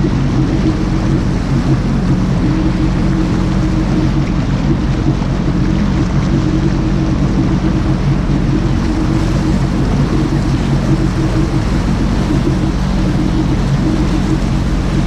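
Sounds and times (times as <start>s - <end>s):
jet ski engine drone: 0.0s - 15.0s
water and wind rushing hiss: 0.0s - 15.0s.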